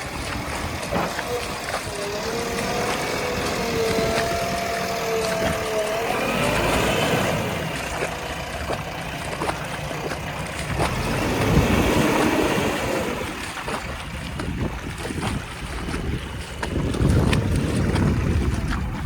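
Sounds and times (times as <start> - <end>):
heavy diesel engines under load: 0.0 - 19.0
wind buffeting microphone: 0.0 - 19.0.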